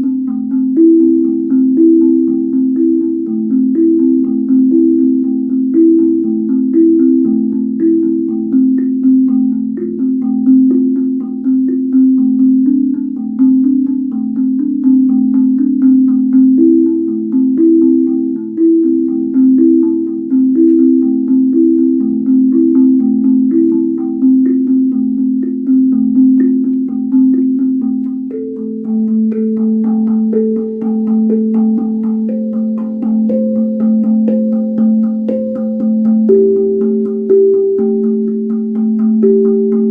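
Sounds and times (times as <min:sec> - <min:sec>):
steel tongue drum notes: 0:00.0 - 0:39.9.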